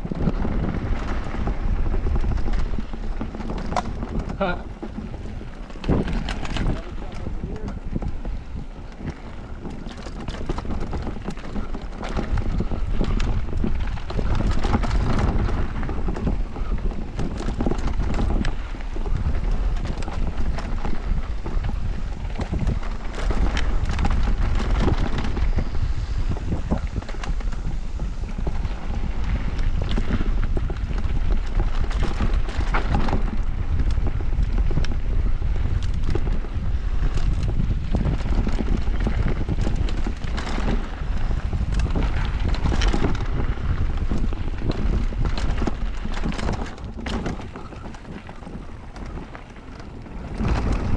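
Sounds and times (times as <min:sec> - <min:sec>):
bike tyres and frame rattling: 0:00.0 - 0:50.9
wind buffeting microphone: 0:00.0 - 0:50.9.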